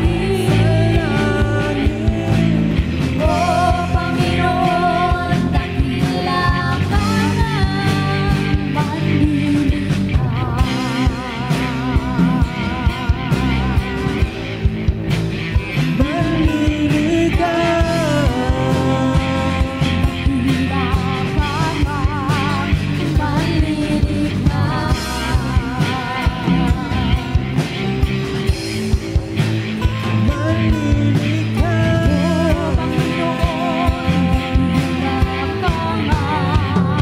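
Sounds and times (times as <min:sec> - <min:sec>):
bass: 0:00.0 - 0:37.0
sliding lead melody with vibrato: 0:00.0 - 0:37.0
steady drum beat: 0:00.0 - 0:37.0
worship song by a band: 0:00.0 - 0:37.0.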